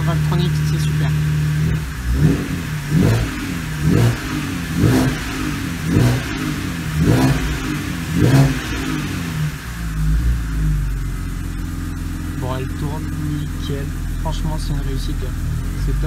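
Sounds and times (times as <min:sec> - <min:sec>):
car engine revving from idle: 0:00.0 - 0:16.0.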